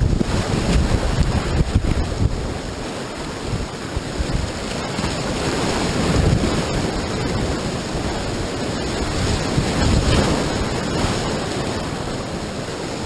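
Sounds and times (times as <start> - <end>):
river rapid rushing: 0.0 - 13.0
wind buffeting microphone: 0.0 - 13.0.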